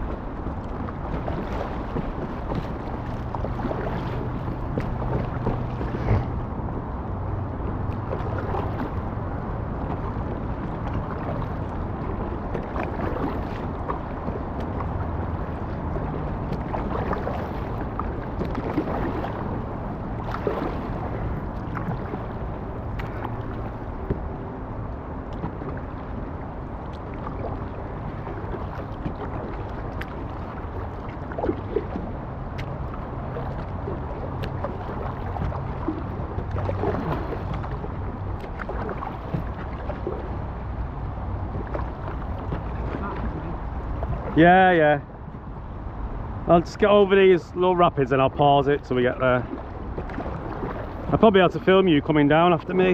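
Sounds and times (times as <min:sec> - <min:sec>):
wind buffeting microphone: 0:00.0 - 0:46.6
river water rushing and splashing: 0:00.0 - 0:52.9.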